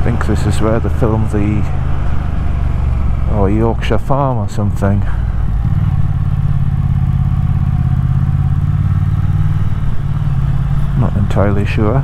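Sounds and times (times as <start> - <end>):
motorcycle engine running low revs: 0.0 - 12.0.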